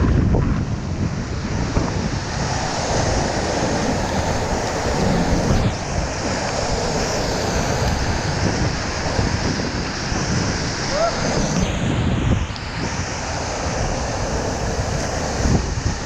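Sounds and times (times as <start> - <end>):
water splashing over boat: 1.3 - 16.0
whitewater rapids rushing: 1.4 - 16.0.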